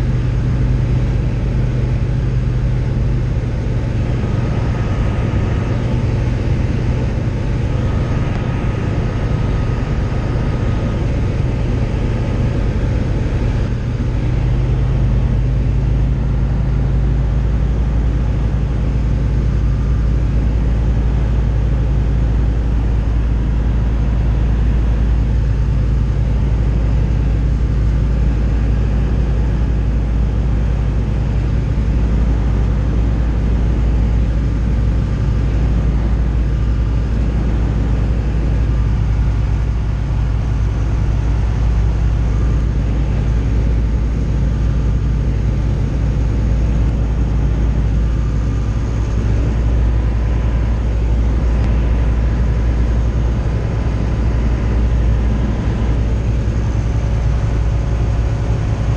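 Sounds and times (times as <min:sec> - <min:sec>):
light aircraft engine drone: 0:00.0 - 0:58.9.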